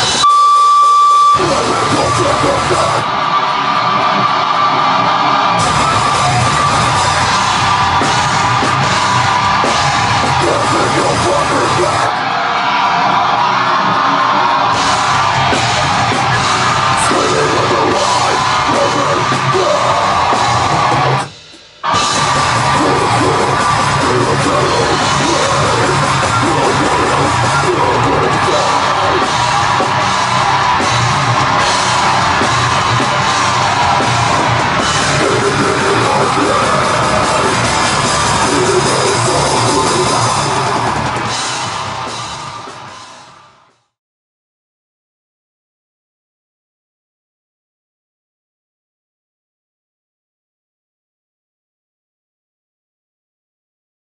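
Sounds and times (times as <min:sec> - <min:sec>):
heavy metal band playing: 0:00.0 - 0:44.0.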